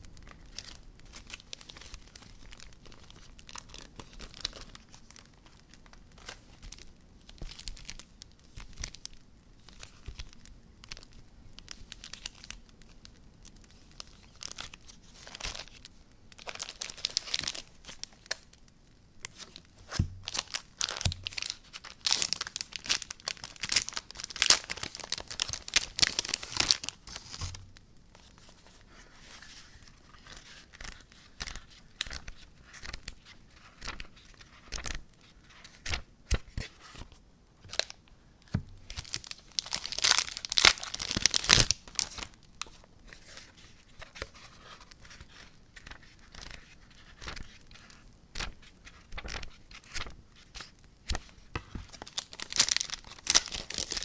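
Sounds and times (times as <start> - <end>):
packaging crinkling and tearing: 0.0 - 54.0.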